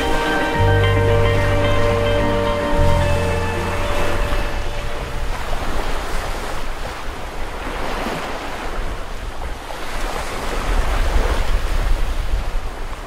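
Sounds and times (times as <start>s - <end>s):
wind buffeting microphone: 0.0s - 13.0s
small waves on sandy beach: 2.1s - 13.0s.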